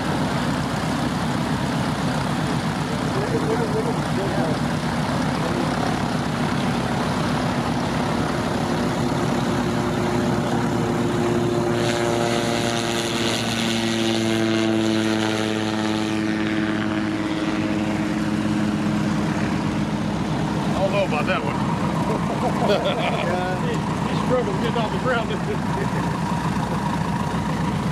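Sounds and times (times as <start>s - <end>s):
aircraft engine drone: 0.0s - 27.9s
propellers rushing hiss: 0.0s - 27.9s.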